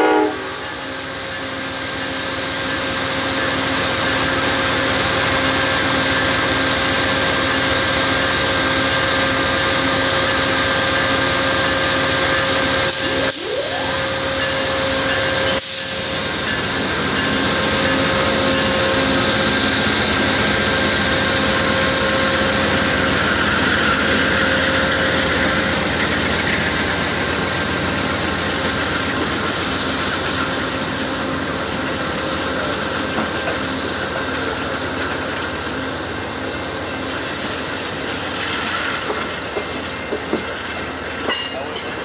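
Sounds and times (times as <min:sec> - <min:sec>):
diesel locomotives: 0:00.0 - 0:42.0
train wheels clattering on rails: 0:03.7 - 0:42.0.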